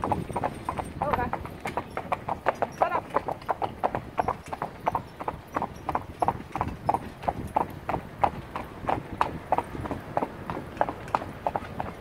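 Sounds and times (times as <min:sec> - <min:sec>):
horse hooves clip-clopping on tarmac: 0:00.0 - 0:12.0.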